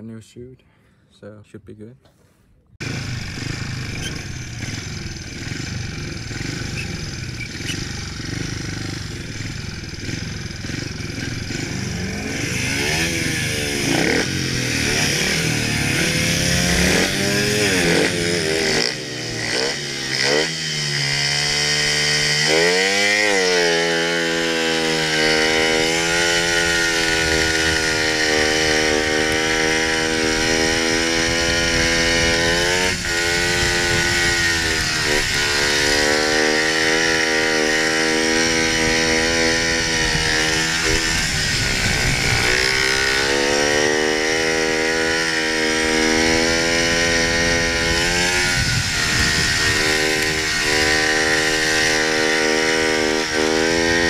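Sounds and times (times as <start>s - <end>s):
motorcycle engine revving: 2.8s - 54.0s.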